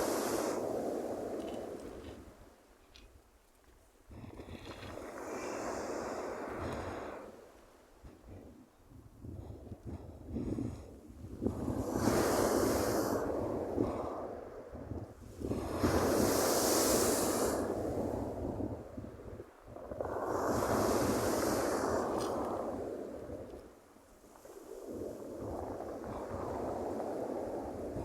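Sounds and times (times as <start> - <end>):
waves breaking on shore: 0.0 - 2.6, 4.6 - 8.2, 10.8 - 28.0
wind rumbling on microphone: 0.0 - 28.0.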